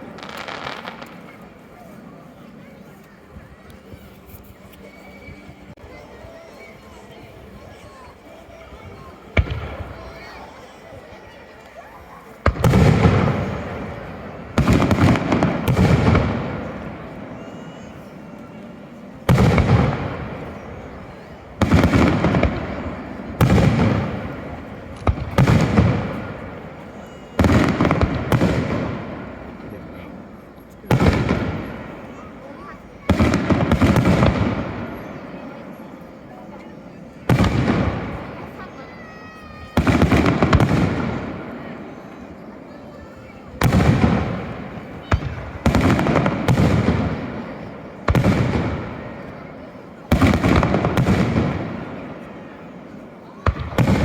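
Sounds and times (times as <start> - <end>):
fireworks bangs with rumbling echo: 0.0 - 4.0, 5.2 - 54.0.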